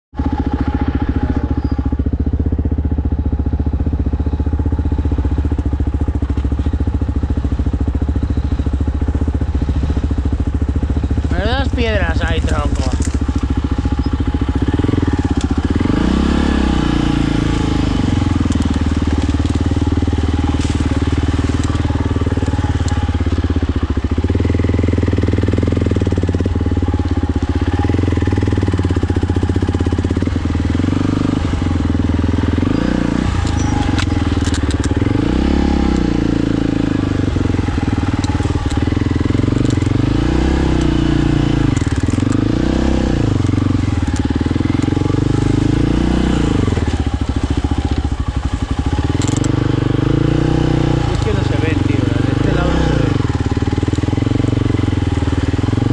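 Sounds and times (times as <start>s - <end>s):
quad engine revving: 0.2s - 55.9s.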